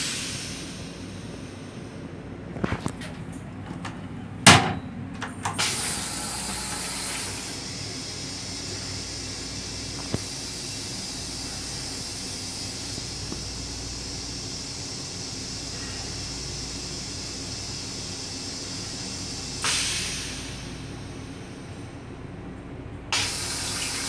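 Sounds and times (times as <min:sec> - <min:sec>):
toilet flushing: 0:00.0 - 0:01.8, 0:04.6 - 0:22.1, 0:23.1 - 0:24.0
railcar rumble and hiss: 0:00.0 - 0:24.0.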